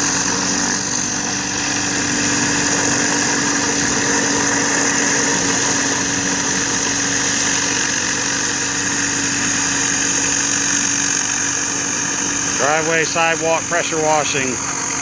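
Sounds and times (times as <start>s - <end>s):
pressure washer running: 0.0s - 15.0s.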